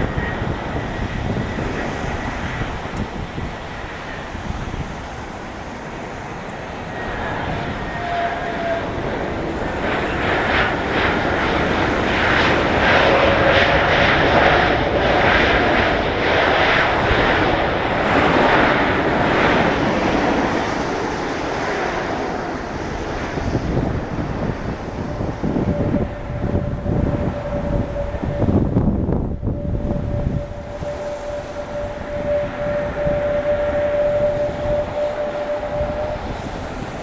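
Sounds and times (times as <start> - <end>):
jet engines passing: 0.0 - 37.0
wind rumble on microphone: 0.0 - 37.0.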